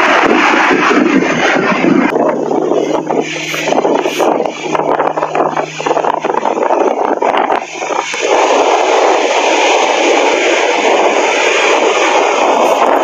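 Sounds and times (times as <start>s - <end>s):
strong wind on microphone: 0.0s - 13.0s
surf breaking: 0.0s - 13.0s.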